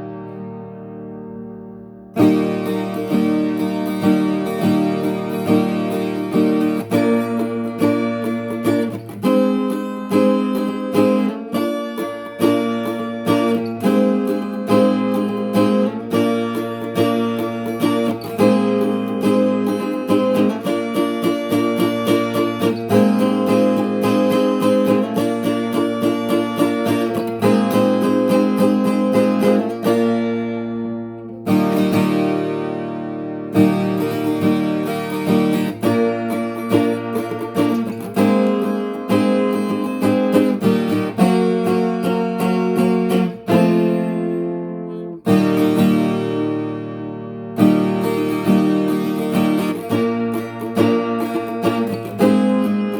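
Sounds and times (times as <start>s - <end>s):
plucked and strummed guitar: 0.0s - 52.9s.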